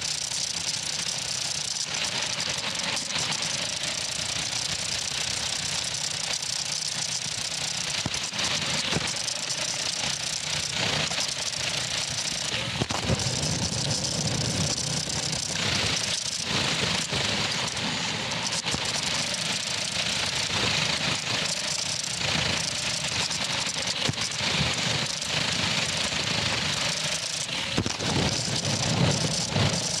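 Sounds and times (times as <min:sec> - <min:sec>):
toy motors and gears whirring: 0:00.0 - 0:30.0
wheels rolling over rough concrete: 0:00.1 - 0:30.0.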